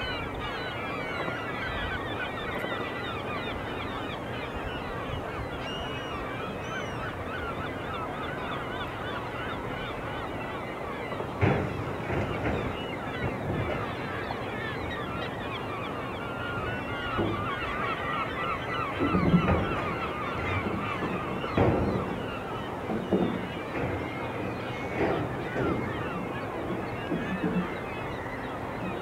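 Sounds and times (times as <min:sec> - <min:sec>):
flock of ducks calling: 0:00.0 - 0:29.0.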